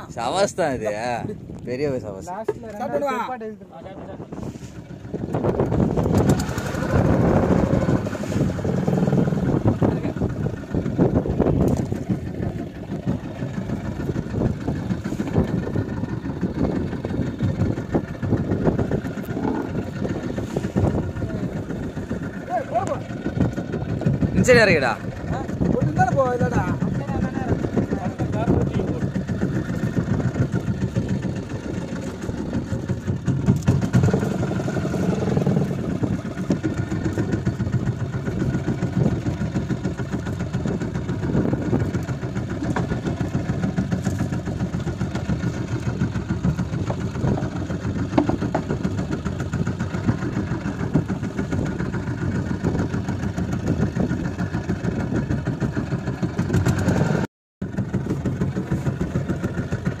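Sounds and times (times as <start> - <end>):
boat engine droning: 0.0 - 60.0.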